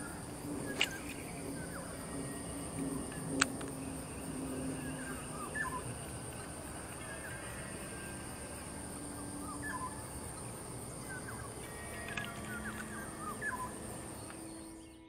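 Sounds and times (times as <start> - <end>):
birds chirping: 0.0 - 15.0
high-pitched insect drone: 0.0 - 15.0
low outdoor background noise: 0.0 - 15.0.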